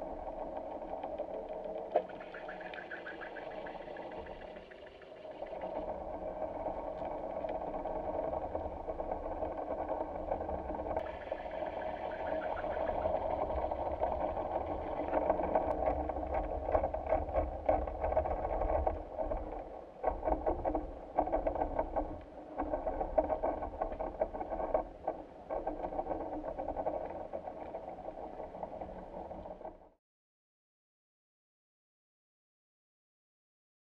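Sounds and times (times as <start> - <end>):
underwater low hum: 0.0 - 30.0.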